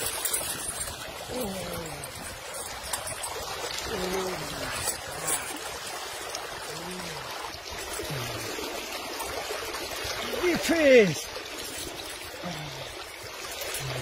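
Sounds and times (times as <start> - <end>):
metal chain clinking: 0.0 - 14.0
water streaming and splashing: 0.0 - 14.0.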